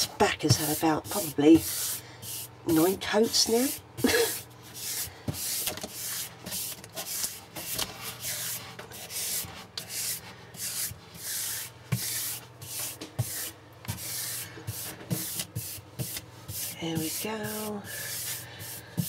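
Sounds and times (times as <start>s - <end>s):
paintbrush swishing strokes: 0.6s - 3.7s, 4.3s - 19.0s.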